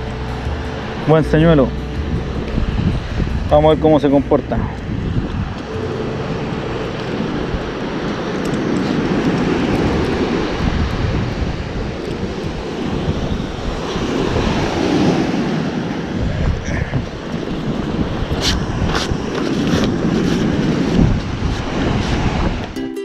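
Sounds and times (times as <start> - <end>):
breaking surf: 0.0 - 22.8
wind on microphone: 0.0 - 22.8.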